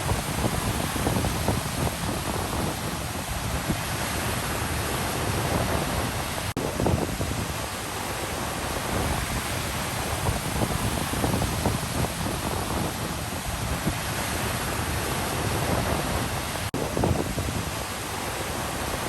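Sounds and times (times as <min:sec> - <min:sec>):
wind buffeting microphone: 0:00.0 - 0:08.0, 0:08.6 - 0:19.0
ocean waves washing on shore: 0:00.0 - 0:19.0.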